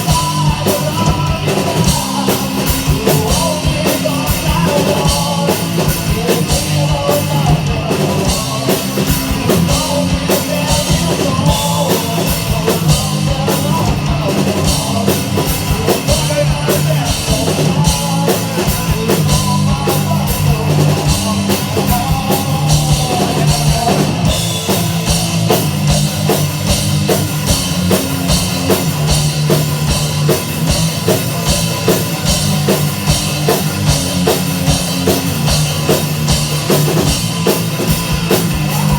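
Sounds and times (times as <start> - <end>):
distorted guitar: 0.0 - 38.9
loud rock music: 0.0 - 38.9
pounding drum kit: 0.0 - 38.9.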